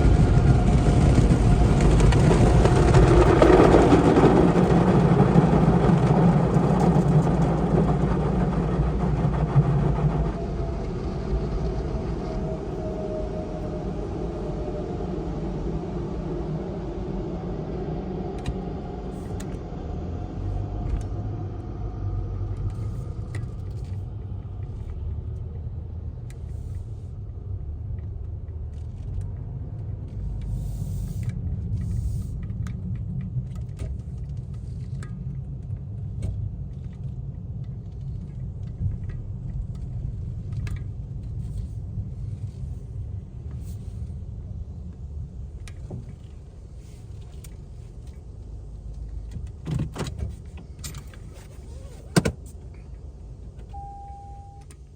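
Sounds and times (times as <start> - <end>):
car engine and road noise: 0.0 - 54.9.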